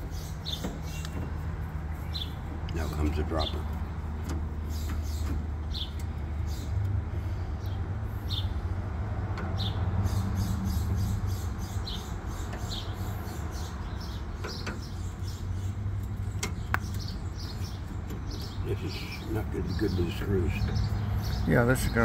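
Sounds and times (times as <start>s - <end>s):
bird chirping: 0.0s - 8.6s, 9.6s - 22.0s
low engine hum: 0.0s - 22.0s.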